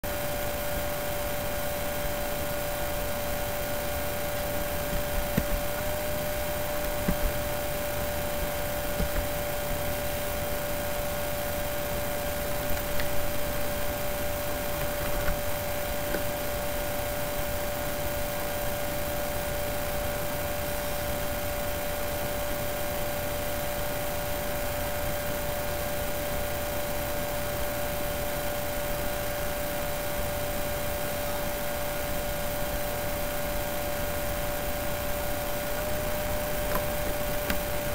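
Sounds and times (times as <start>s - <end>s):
constant hiss: 0.0s - 37.9s
electrical hum: 0.0s - 37.9s.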